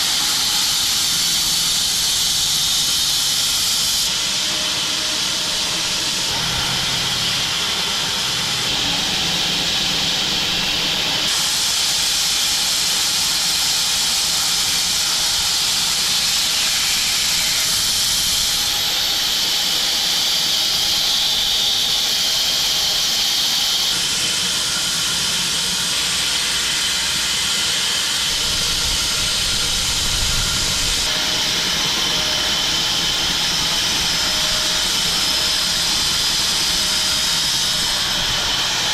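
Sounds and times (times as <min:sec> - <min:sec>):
bandsaw mill cutting log: 0:00.0 - 0:38.9.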